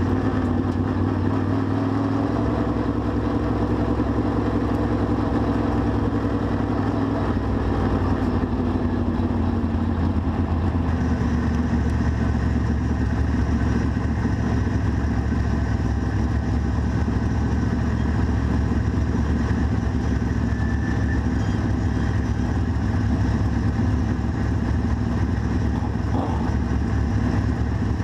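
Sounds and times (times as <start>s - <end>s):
race car engine idling: 0.0s - 28.0s.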